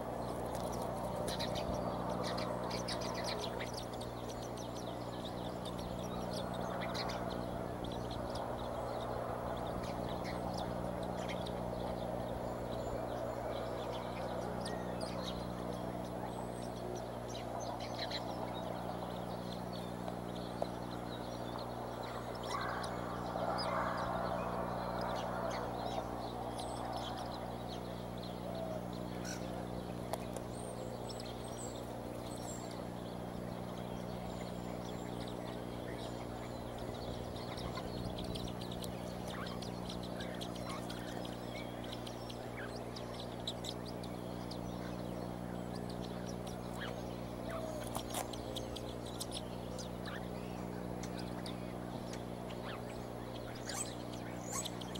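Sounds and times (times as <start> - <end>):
electrical hum: 0.0 - 54.9
young eagles chirping and peeping: 0.0 - 54.9.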